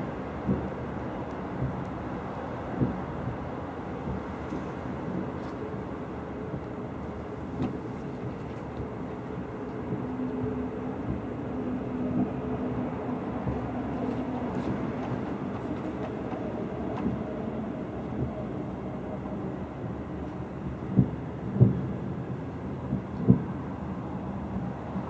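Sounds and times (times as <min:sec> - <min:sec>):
distant fireworks rumble: 0:00.0 - 0:11.4, 0:12.1 - 0:17.2, 0:19.7 - 0:23.6.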